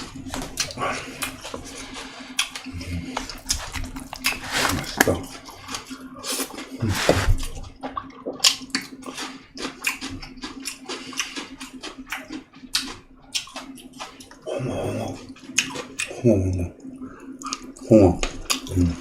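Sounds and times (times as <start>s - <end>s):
steady low hum: 0.0s - 19.0s
wet chewing: 0.0s - 19.0s.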